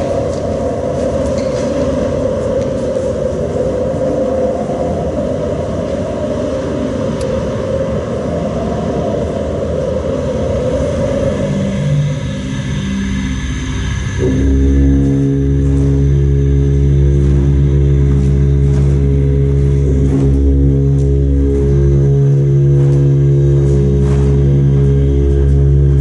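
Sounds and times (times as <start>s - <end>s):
loud rumbling: 0.0s - 26.0s
low held music tones: 0.0s - 26.0s.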